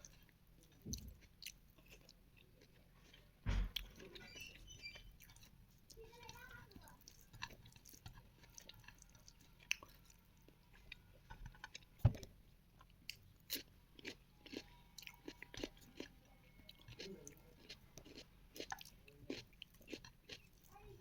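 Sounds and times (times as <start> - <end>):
person chewing: 0.0 - 20.8.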